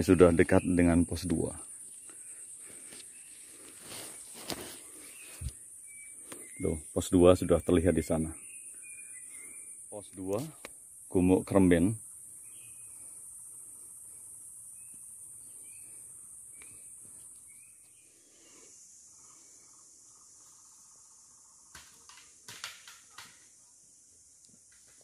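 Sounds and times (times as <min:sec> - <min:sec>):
high-pitched insect drone: 0:04.8 - 0:25.0.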